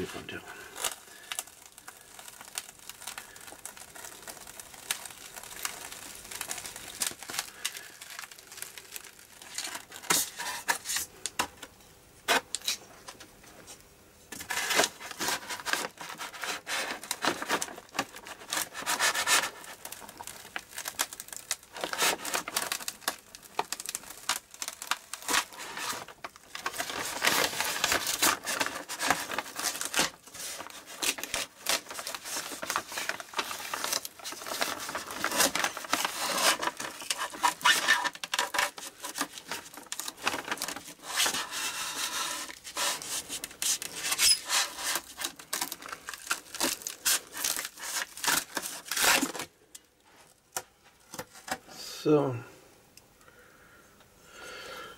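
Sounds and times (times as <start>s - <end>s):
foam and tape tearing: 0.0s - 11.4s, 14.3s - 49.6s.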